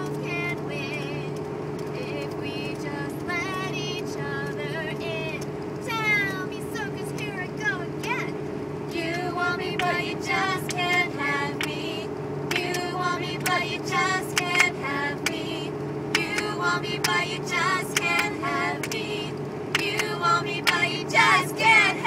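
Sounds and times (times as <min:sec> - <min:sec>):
vehicle engine and tyres hum: 0:00.0 - 0:22.0.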